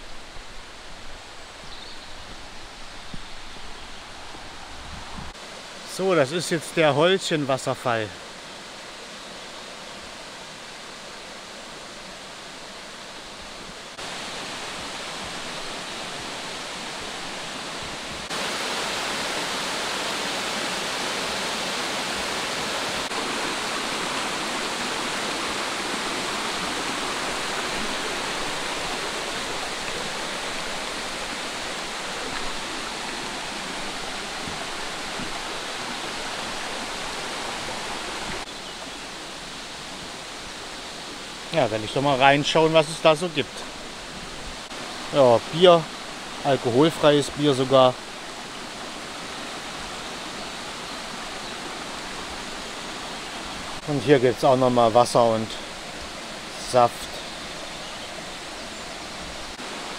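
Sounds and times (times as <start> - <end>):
waterfall rushing: 3.4 - 59.9.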